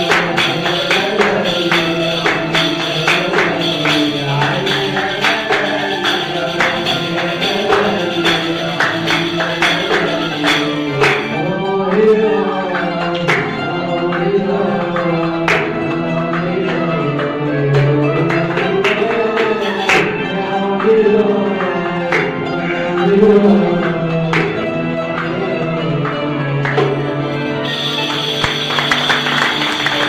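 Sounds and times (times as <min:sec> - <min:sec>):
hand percussion beat: 0:00.0 - 0:30.0
qanun plucked melody: 0:00.0 - 0:30.0.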